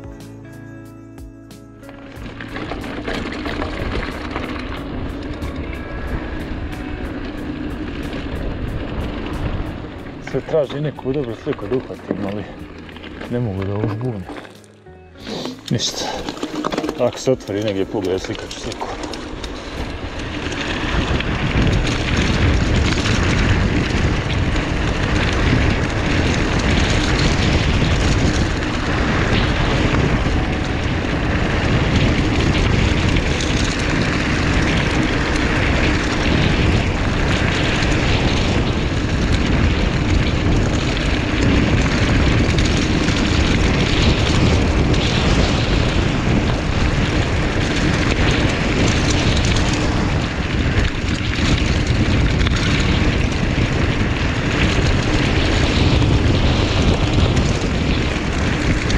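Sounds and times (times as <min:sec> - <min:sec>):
tyre rumble: 0:01.2 - 0:05.8, 0:08.0 - 0:58.9
wind buffeting microphone: 0:02.0 - 0:14.5, 0:15.6 - 0:58.9.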